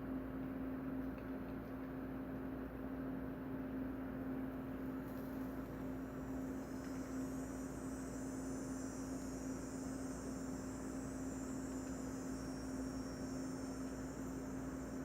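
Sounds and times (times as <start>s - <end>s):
electrical hum: 0.0s - 15.0s
faint high whine: 0.0s - 15.0s.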